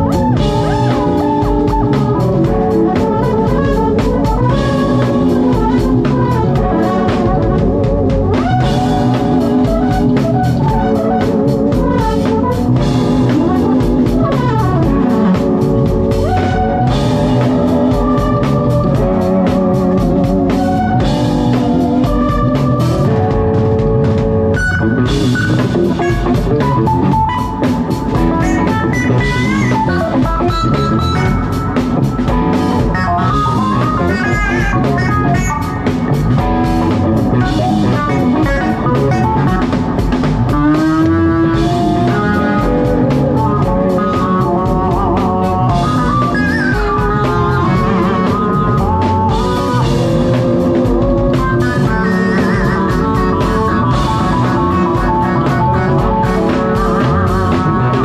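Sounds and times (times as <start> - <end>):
drum kit: 0.0 - 58.0
electric bass: 0.0 - 58.0
electric guitar: 0.0 - 58.0
keyboards: 0.0 - 58.0.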